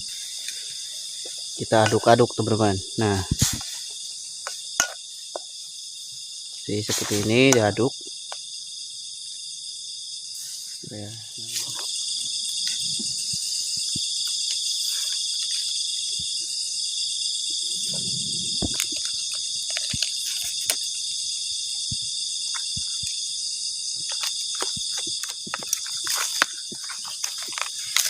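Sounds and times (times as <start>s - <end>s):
insect chorus buzzing: 0.0s - 28.0s.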